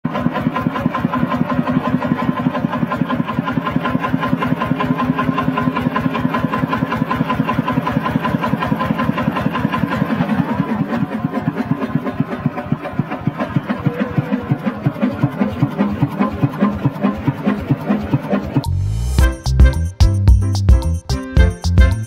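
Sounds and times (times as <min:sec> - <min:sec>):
diesel engine idling chugging: 0:00.0 - 0:20.0.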